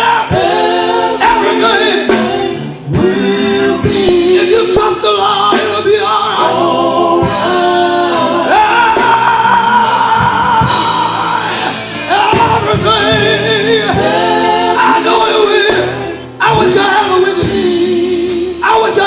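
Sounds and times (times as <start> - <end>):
male vocal group singing in harmony: 0.0 - 19.0.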